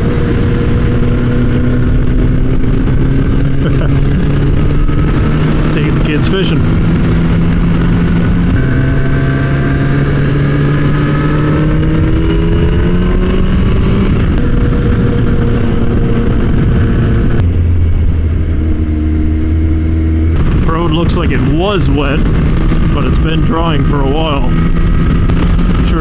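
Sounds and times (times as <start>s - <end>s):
motorcycle engine running: 0.0s - 26.0s
wind rushing: 0.0s - 26.0s.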